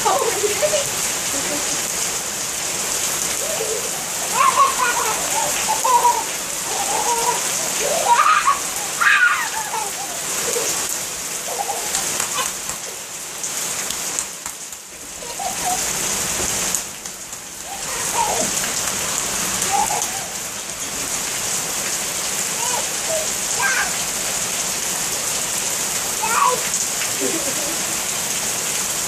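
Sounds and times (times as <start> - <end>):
heavy rain on pavement: 0.0 - 29.0.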